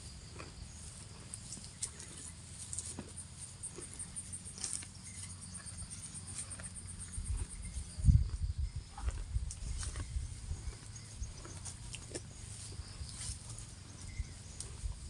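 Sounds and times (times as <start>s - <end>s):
cow tearing and chewing grass: 0.0s - 15.0s
insects chirping: 0.0s - 15.0s.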